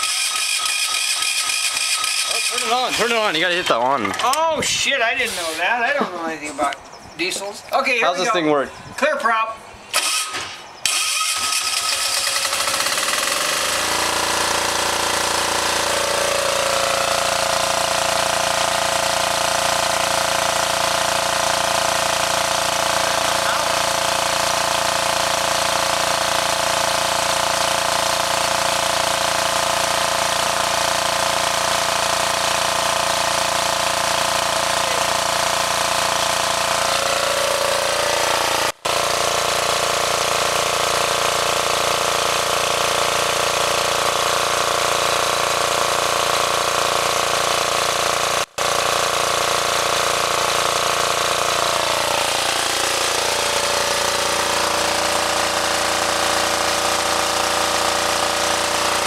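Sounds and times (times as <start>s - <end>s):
diesel generator engine running: 0.0s - 9.0s, 9.6s - 59.0s.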